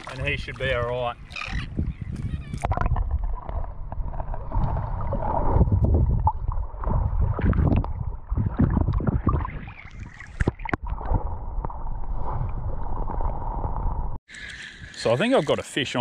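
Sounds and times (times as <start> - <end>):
muffled underwater sloshing: 0.0 - 15.5.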